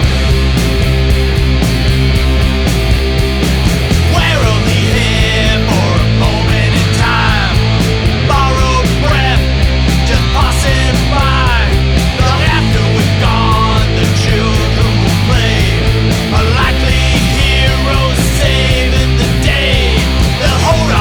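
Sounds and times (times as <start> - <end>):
punk rock song: 0.0 - 21.0.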